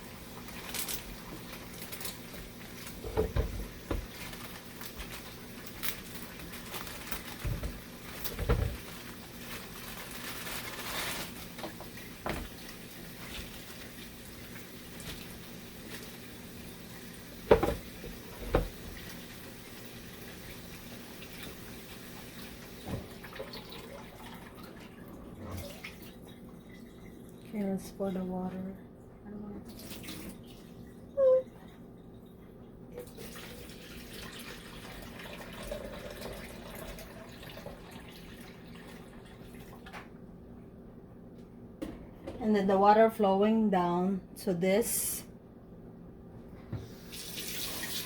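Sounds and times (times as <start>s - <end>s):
faint watery hiss and hum: 0.0s - 48.0s.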